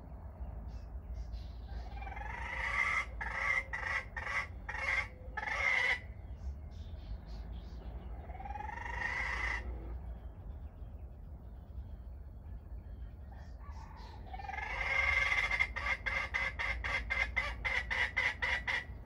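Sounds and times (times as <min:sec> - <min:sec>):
bird's harsh calls: 0:00.7 - 0:10.4, 0:13.0 - 0:19.0.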